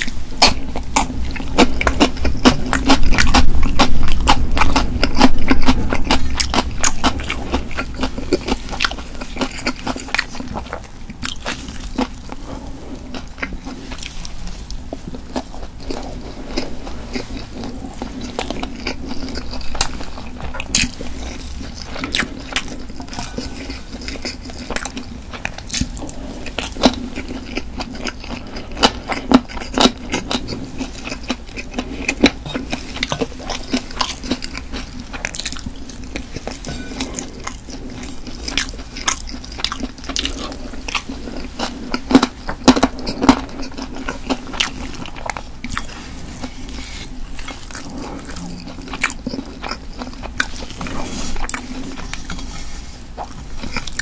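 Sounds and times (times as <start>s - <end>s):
crunchy chewing: 0.0s - 54.0s
faint low hum: 0.0s - 54.0s.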